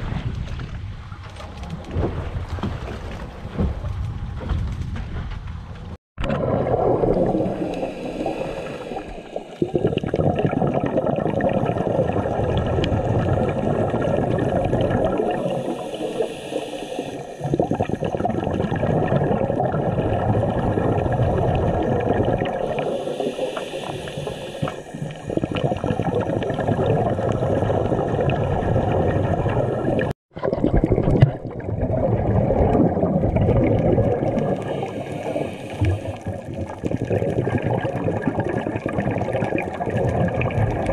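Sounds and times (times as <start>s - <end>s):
underwater gurgle and rush of water: 6.2s - 40.9s.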